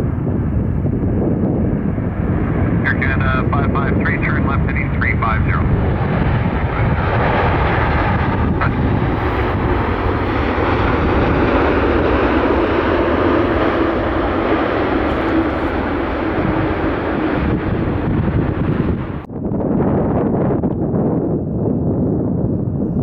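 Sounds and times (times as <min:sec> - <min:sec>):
jet engines rumbling: 0:00.0 - 0:19.8.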